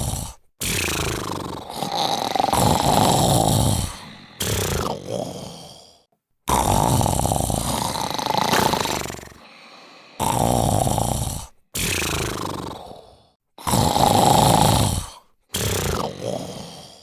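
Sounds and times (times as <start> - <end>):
person snoring: 0.0 - 17.0.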